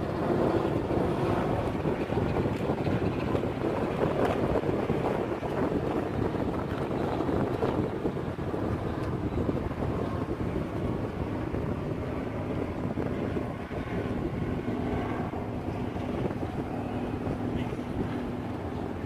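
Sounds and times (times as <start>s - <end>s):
faint engine hum: 0.0s - 19.0s
wind rumbling on microphone: 0.0s - 19.0s.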